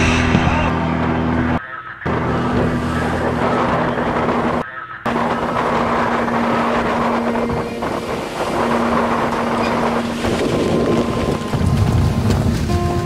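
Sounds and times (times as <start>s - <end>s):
low drone: 0.0s - 13.0s
water rushing past boat: 0.0s - 13.0s
wind buffeting microphone: 0.0s - 13.0s.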